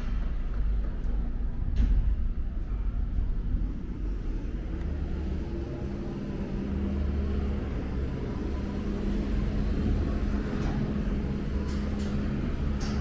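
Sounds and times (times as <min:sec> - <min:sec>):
low traffic rumble: 0:00.0 - 0:13.0
steady low hum: 0:00.0 - 0:13.0.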